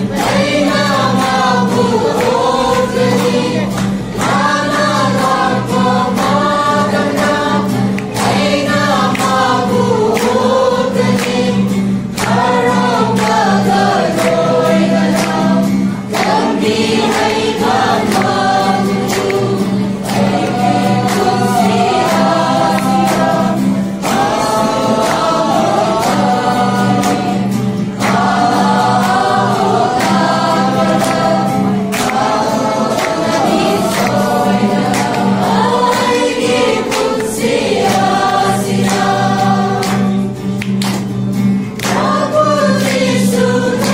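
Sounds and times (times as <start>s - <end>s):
group of voices singing: 0.0s - 43.9s
strummed acoustic guitar: 0.0s - 43.9s.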